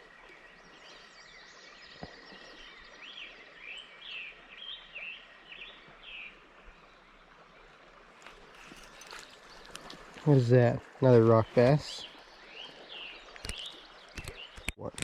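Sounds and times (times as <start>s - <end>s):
faint outdoor background noise: 0.0s - 15.0s
songbird singing: 0.0s - 15.0s.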